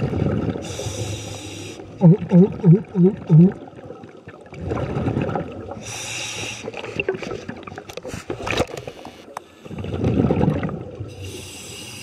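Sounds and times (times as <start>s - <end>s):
scuba bubbles rumbling: 0.0s - 9.0s, 9.6s - 11.9s.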